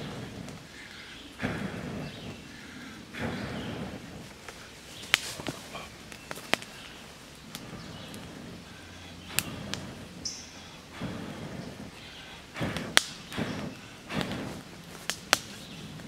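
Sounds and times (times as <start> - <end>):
breath blown into fire: 0.0 - 6.0, 6.7 - 15.1
burning kindling crackling: 0.0 - 16.0.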